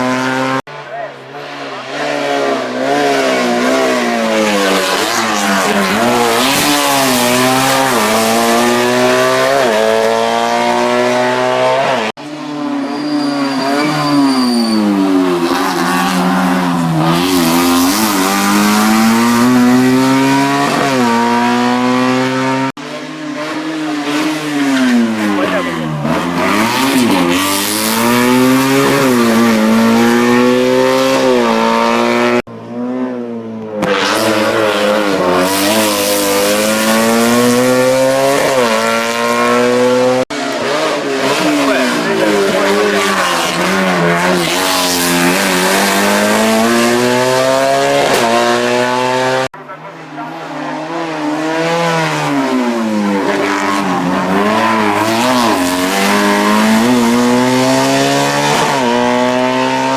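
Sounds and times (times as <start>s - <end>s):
racing car engines revving: 0.0s - 59.9s.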